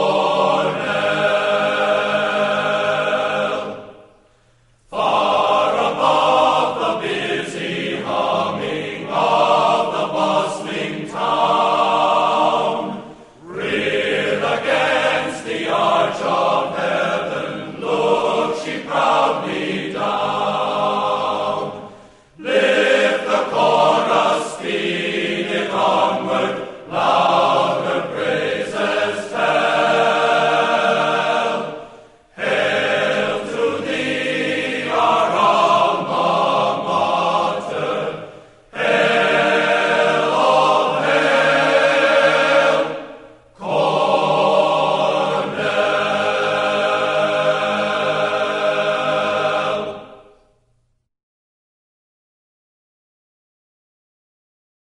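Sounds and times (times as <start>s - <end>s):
choir singing: 0.0s - 4.3s, 4.9s - 50.6s.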